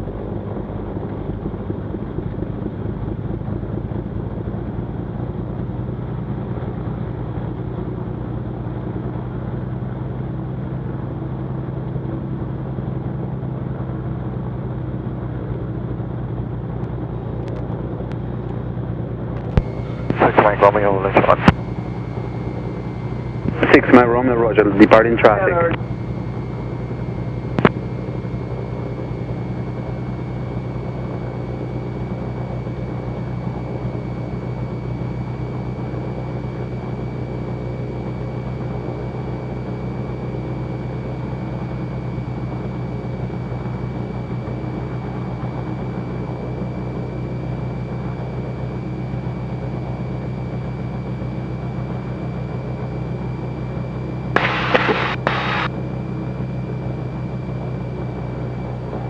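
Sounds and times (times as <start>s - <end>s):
aircraft engines droning in cabin: 0.0s - 59.0s.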